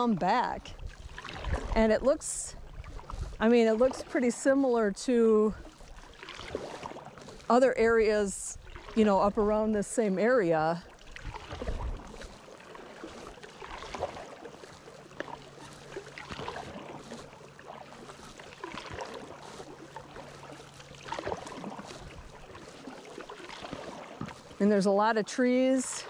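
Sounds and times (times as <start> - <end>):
paddle splashing in water: 0.0 - 26.0
water dripping and lapping: 0.0 - 26.0.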